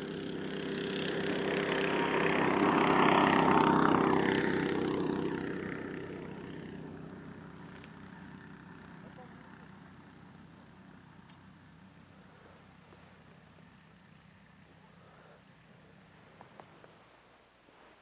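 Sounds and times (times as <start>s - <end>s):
engine passing by: 0.0s - 17.2s.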